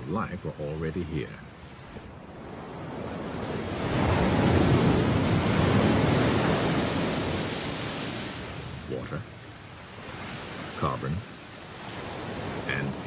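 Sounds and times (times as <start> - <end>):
ocean waves rushing: 0.0 - 13.0.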